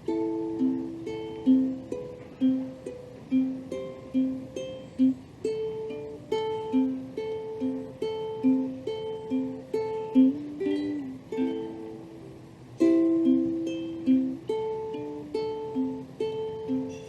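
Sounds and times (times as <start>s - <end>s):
plucked string instrument melody: 0.0s - 17.0s.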